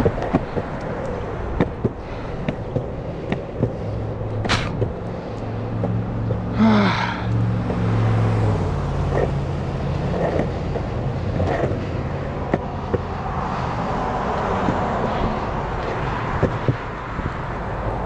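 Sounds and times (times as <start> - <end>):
wheels clacking over slab joints: 0.0 - 6.6, 7.2 - 18.0
cars passing: 0.0 - 18.0
longboard wheels rolling on concrete: 0.0 - 18.0.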